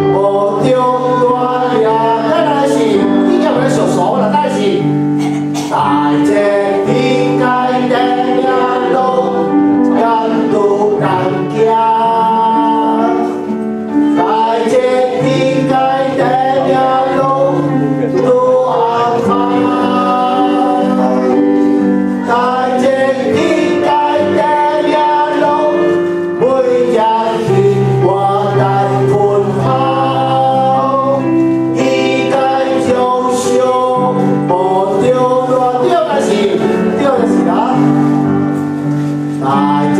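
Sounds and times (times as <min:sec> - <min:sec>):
instrumental accompaniment: 0:00.0 - 0:39.9
voices singing a worship song: 0:00.0 - 0:39.9.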